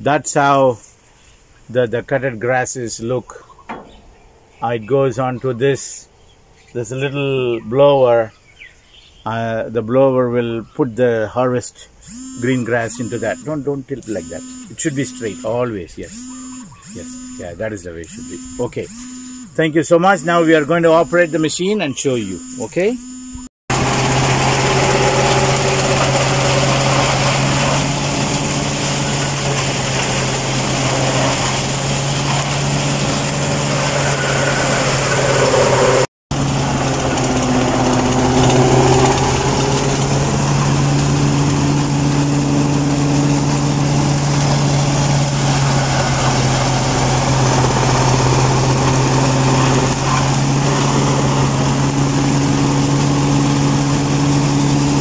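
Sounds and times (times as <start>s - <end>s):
tractor engine droning: 2.6s - 5.4s, 9.3s - 55.0s
forage harvester running: 3.6s - 4.6s, 12.0s - 55.0s.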